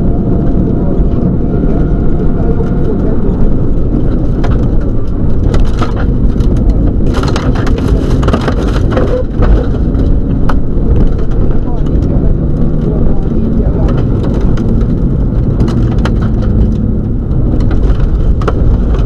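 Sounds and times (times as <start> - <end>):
car engine under load: 0.0 - 19.0
road and tyre rumble: 0.0 - 19.0.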